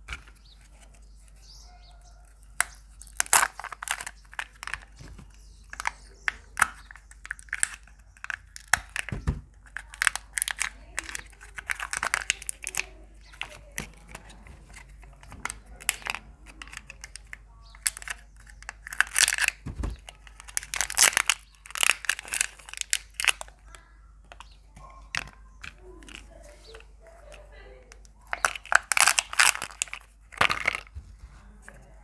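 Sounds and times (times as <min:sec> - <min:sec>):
wrappers crinkling and tearing: 0:02.2 - 0:23.8, 0:24.4 - 0:31.0.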